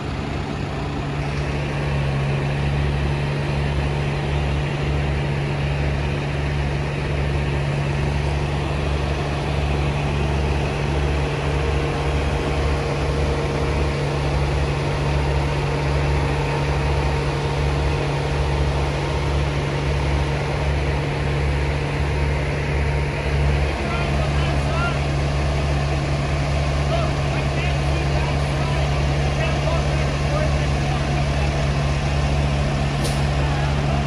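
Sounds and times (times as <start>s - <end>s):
truck diesel engine running: 0.0s - 34.0s.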